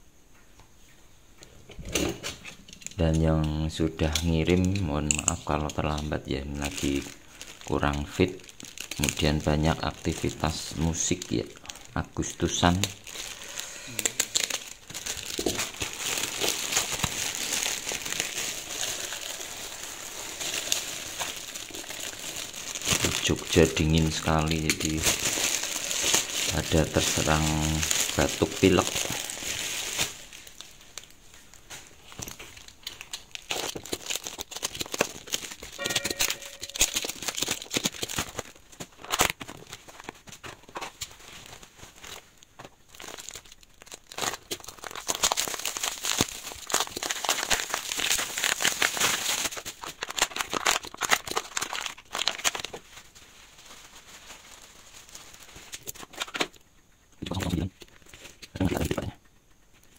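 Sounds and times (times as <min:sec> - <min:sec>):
plastic wrapping crinkling: 0:01.8 - 0:59.9.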